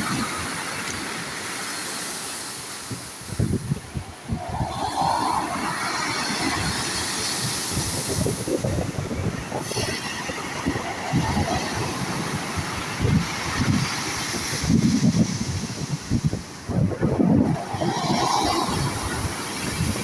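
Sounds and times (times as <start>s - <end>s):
sea waves breaking: 0.0s - 20.0s
wind buffeting microphone: 2.8s - 20.0s.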